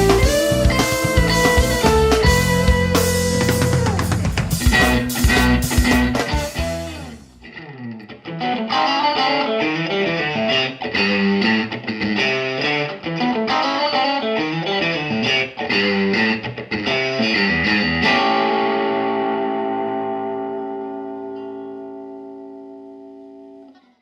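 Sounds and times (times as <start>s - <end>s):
electric guitar notes and chords: 0.0s - 24.0s.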